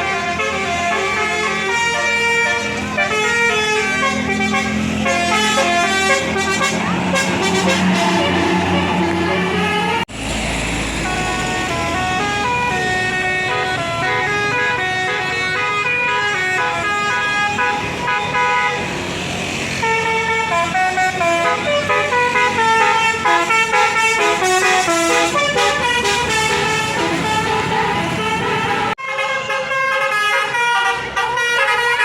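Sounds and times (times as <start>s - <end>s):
multi-tone bus horn melody: 0.0s - 10.1s, 10.9s - 19.1s, 19.7s - 32.0s.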